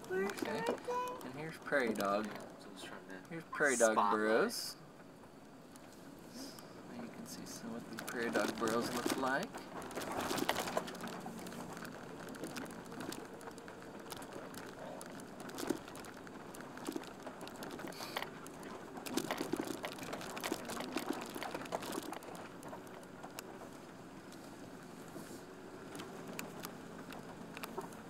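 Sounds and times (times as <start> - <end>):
van rumbling over rough ground: 0.0 - 28.0.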